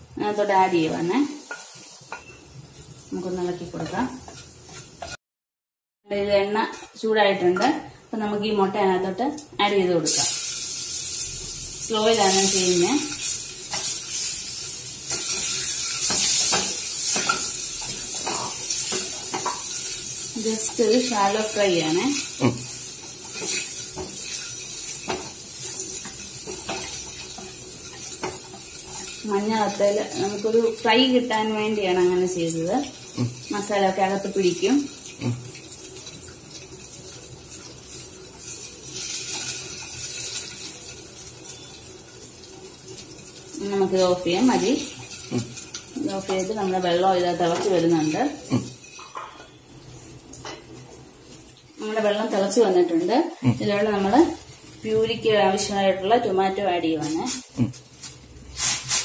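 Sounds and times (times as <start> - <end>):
eggs sizzling in oil: 0.0 - 5.2, 6.2 - 59.0.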